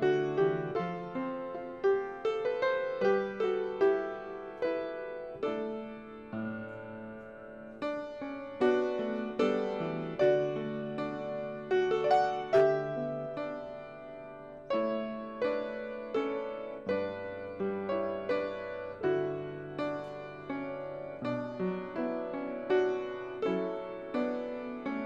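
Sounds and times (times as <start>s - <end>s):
slow solo piano piece: 0.0s - 25.0s.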